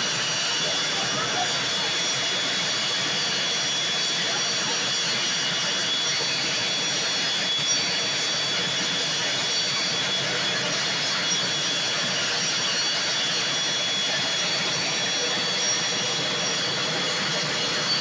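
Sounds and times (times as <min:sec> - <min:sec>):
aircraft turbine engine whine: 0:00.0 - 0:18.0.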